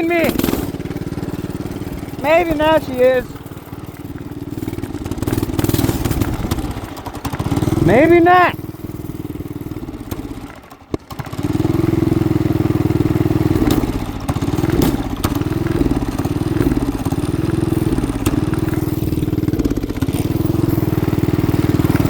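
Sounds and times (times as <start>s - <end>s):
engine click: 0.0s - 22.0s
engine running rough: 0.0s - 22.0s.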